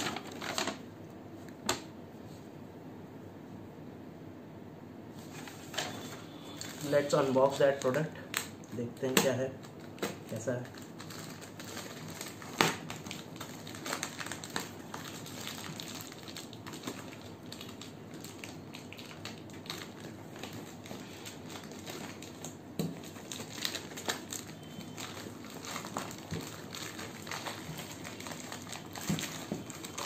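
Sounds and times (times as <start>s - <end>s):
plastic wrap crinkling: 0.0s - 0.8s, 5.2s - 30.0s.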